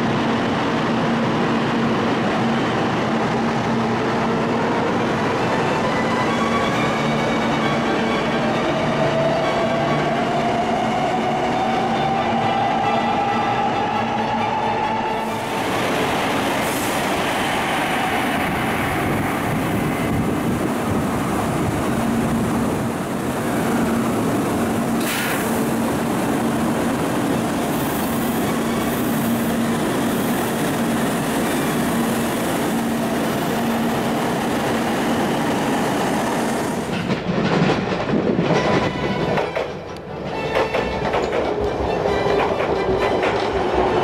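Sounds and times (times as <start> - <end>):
train rushing noise: 0.0 - 44.0.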